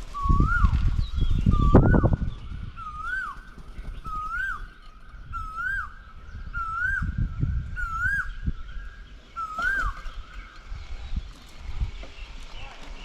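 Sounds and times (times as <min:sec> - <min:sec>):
bird whistling: 0:00.1 - 0:11.1.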